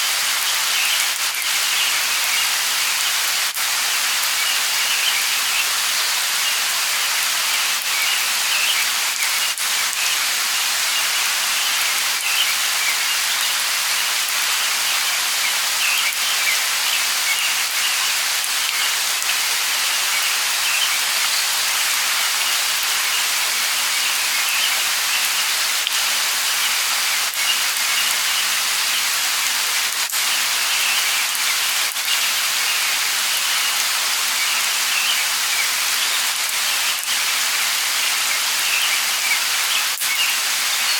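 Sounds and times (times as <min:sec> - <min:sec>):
light rain falling: 0:00.0 - 0:40.9
raindrops ticking: 0:00.3 - 0:15.1, 0:15.8 - 0:37.6.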